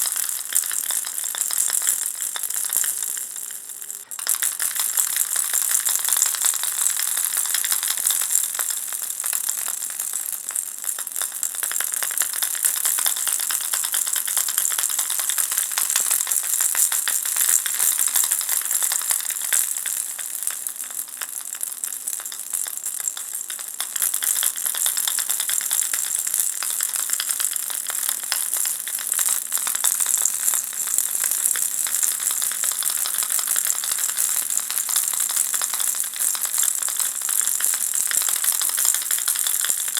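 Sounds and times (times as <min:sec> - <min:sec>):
baby rattle shaken: 0:00.0 - 0:21.4, 0:23.1 - 0:39.9.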